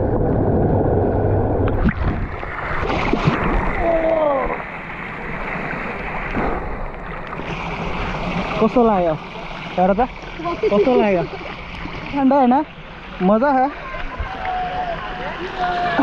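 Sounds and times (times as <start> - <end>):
water pouring and splashing: 1.6 - 16.0.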